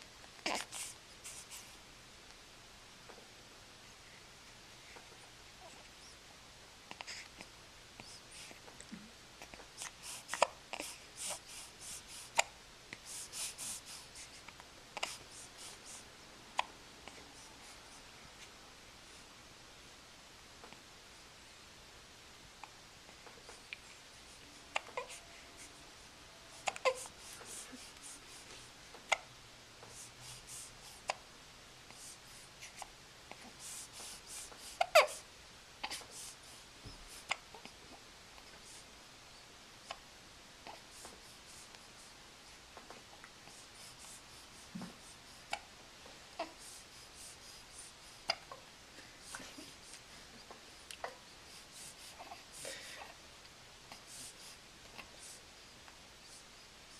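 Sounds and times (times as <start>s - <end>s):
soft breaths: 0.0s - 2.5s, 3.1s - 19.9s, 22.4s - 56.9s.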